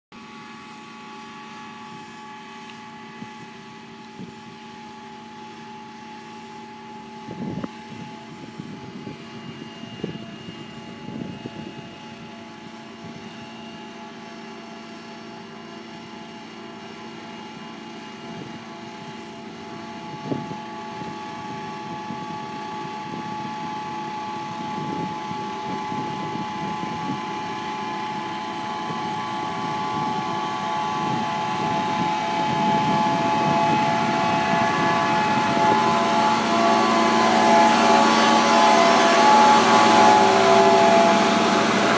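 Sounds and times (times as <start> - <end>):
road roller diesel engine: 0.2 - 41.9.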